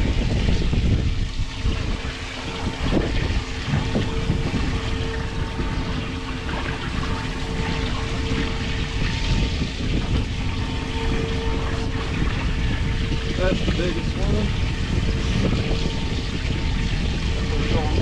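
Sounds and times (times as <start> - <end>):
boat motor hum: 0.0 - 18.0
wind rumbling on microphone: 0.0 - 18.0.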